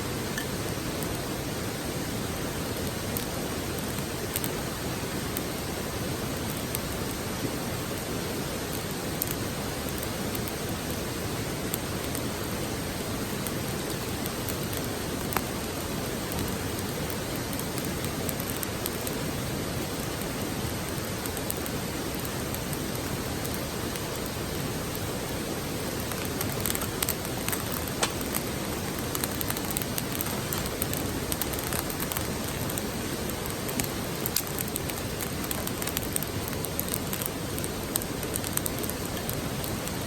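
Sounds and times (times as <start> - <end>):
campfire burning with crackles: 0.0 - 40.0
steady rushing hiss: 0.0 - 40.0.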